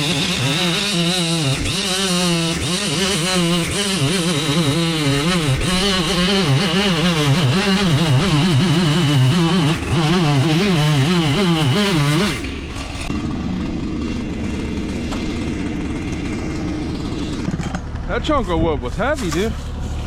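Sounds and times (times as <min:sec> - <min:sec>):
chainsaw cutting wood: 0:00.0 - 0:18.1.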